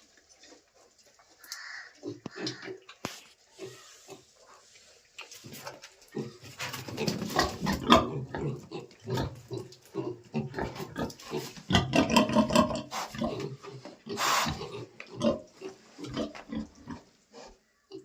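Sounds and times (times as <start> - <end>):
pigs grunting: 1.4 - 4.6, 5.4 - 18.0.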